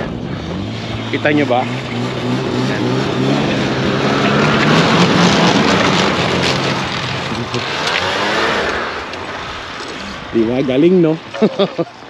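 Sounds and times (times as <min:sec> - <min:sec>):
snowmobile engine passing: 0:00.0 - 0:12.0.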